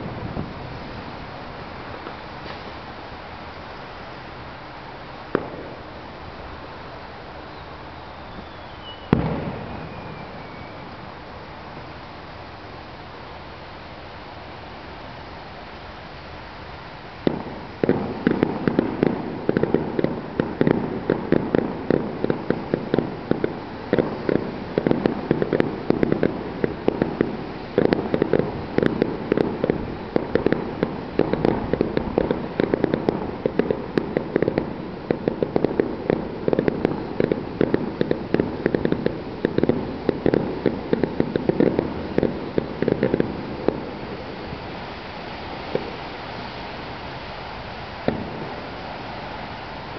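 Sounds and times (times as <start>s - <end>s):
fireworks bangs and pops: 0.0s - 4.2s, 4.8s - 7.6s, 8.4s - 12.0s, 17.2s - 49.9s.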